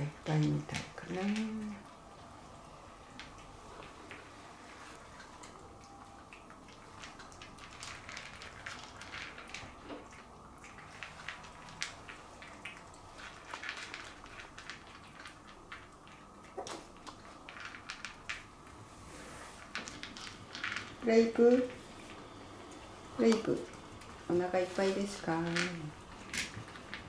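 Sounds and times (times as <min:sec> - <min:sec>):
puppy chewing dry kibble: 0:00.2 - 0:19.0, 0:19.6 - 0:27.0.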